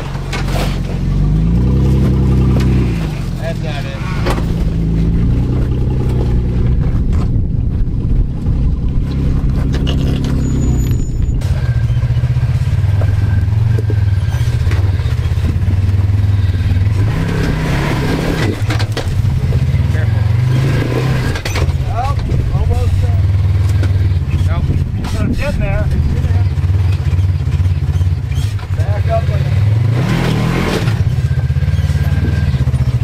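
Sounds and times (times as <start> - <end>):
off-road vehicle engine revving: 0.0 - 33.0.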